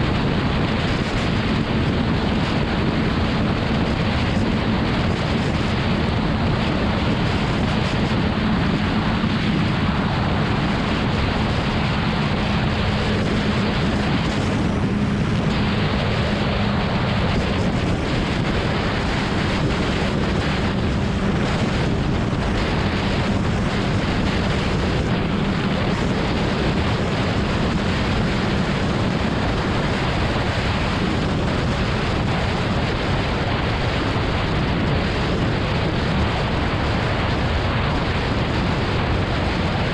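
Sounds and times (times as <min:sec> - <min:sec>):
motorcycle engine cruising: 0:00.0 - 0:36.4
wind on microphone: 0:00.0 - 0:39.9.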